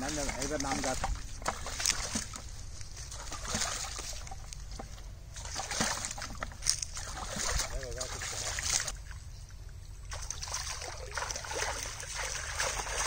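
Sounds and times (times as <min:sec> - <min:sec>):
hands splashing in muddy water: 0:00.0 - 0:04.5, 0:05.4 - 0:09.0, 0:10.1 - 0:13.0.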